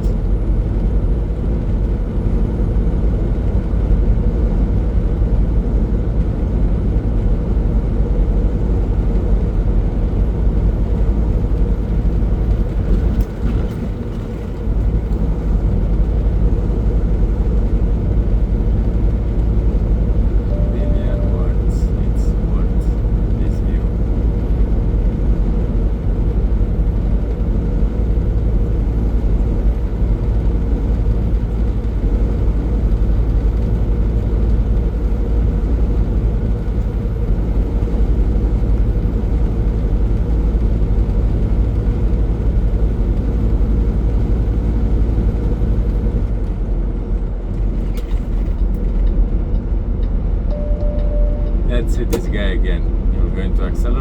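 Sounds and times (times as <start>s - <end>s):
constant hum: 0.0s - 54.0s
road noise: 0.0s - 54.0s
truck engine drone: 0.0s - 54.0s.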